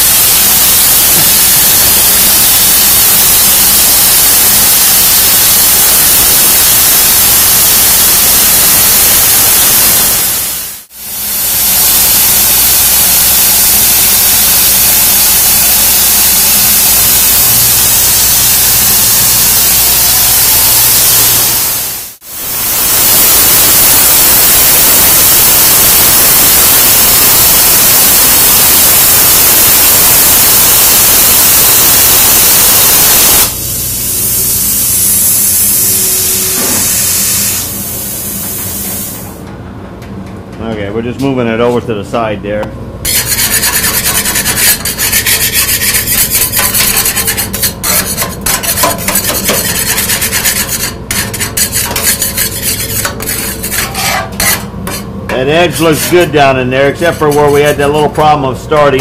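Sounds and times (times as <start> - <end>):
plasma cutter hissing: 0.0 - 39.4, 43.1 - 57.9.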